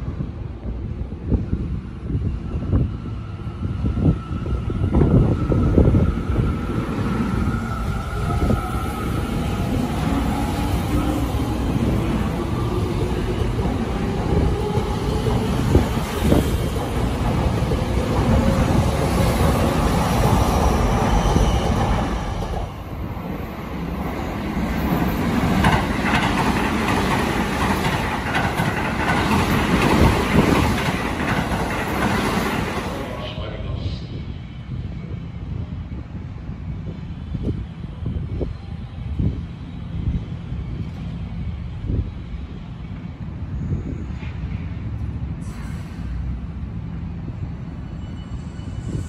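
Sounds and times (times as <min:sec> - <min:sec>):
train passing by: 0:00.0 - 0:49.0.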